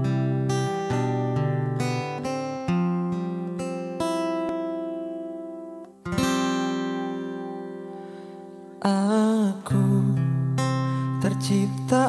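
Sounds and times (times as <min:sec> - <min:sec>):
acoustic guitar chords ringing: 0:00.0 - 0:12.0.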